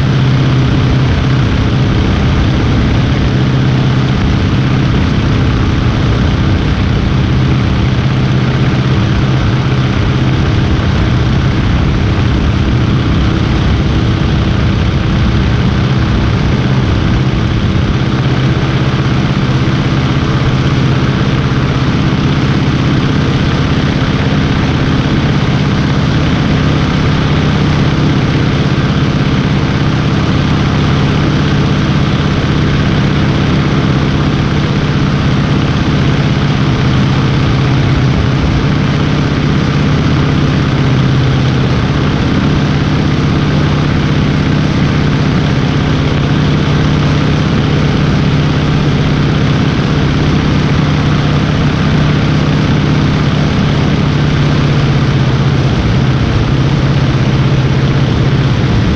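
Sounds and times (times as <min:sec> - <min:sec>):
biplane engine and propeller drone: 0:00.0 - 0:58.9.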